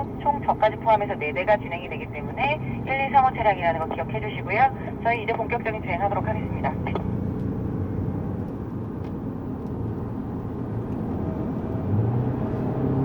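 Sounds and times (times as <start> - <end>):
car engine: 0.0 - 13.0
road noise: 0.0 - 13.0.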